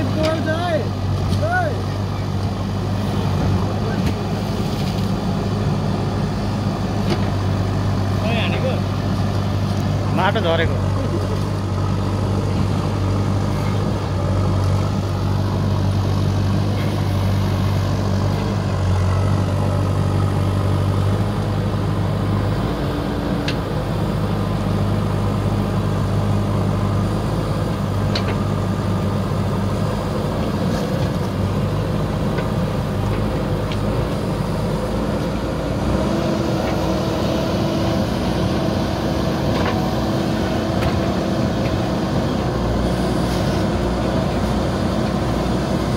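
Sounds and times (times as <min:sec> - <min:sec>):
diesel engine running under load: 0:00.0 - 0:45.9
backhoe digging wet soil: 0:02.4 - 0:08.2, 0:10.8 - 0:45.9.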